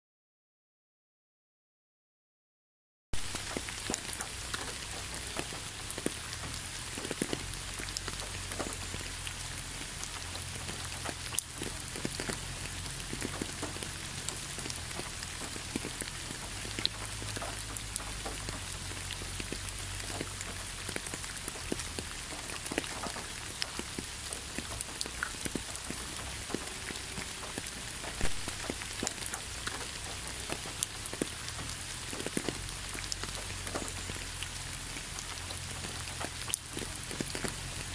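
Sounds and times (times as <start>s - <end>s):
rain pattering on leaves: 3.2s - 37.9s.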